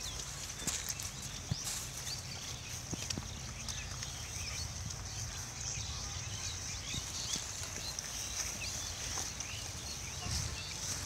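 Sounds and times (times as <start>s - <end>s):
rustling of litter and leaves: 0.0s - 11.0s.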